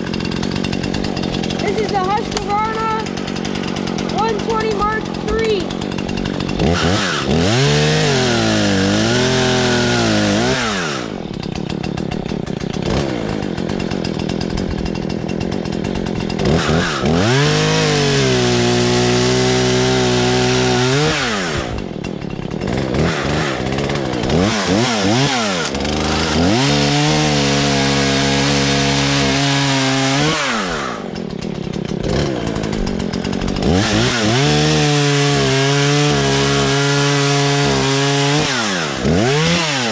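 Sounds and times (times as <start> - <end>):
chainsaw idling: 0.0 - 39.9
chainsaw revving at full throttle: 0.0 - 39.9.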